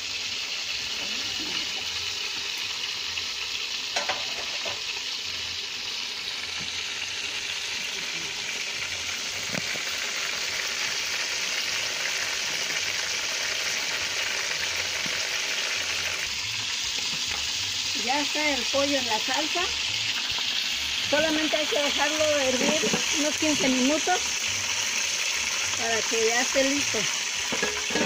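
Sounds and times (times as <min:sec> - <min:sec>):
chicken sizzling in pots: 0:00.0 - 0:28.0.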